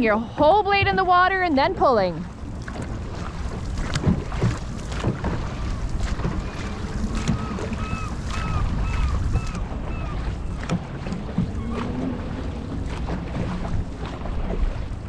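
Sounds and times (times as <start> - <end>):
paddles pulling through water: 0.0 - 15.0
wind rumbling on microphone: 0.0 - 15.0.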